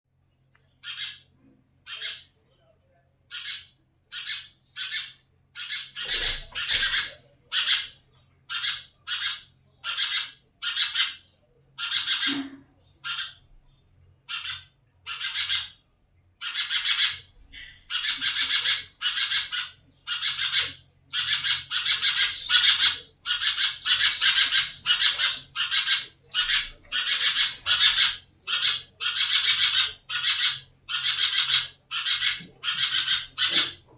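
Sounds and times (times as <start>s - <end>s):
nestlings raspy begging calls: 0.8s - 2.4s, 3.3s - 13.5s, 14.2s - 15.8s, 16.4s - 33.9s.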